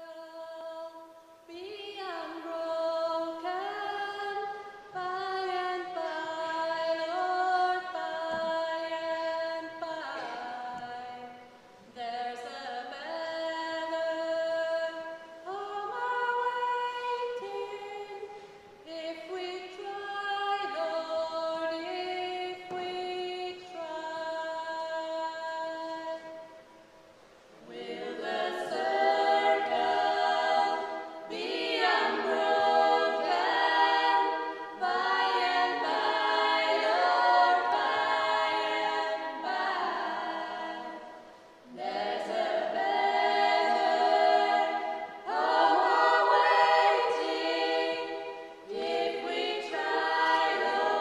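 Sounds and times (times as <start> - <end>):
choir of women singing held notes: 0.0 - 51.0.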